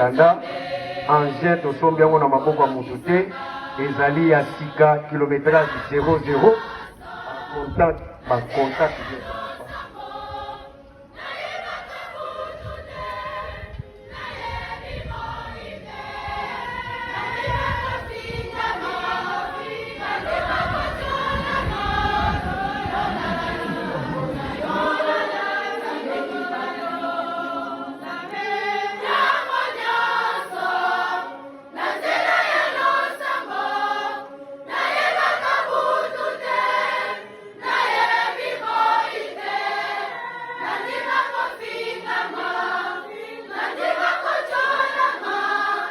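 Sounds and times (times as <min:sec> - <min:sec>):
choir singing a hymn: 0:00.0 - 0:45.9.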